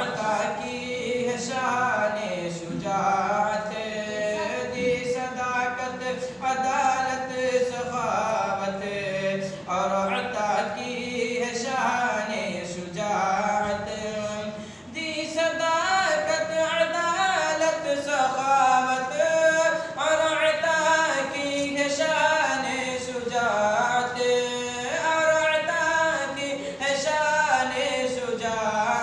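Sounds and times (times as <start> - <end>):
man singing unaccompanied: 0.0 - 29.0.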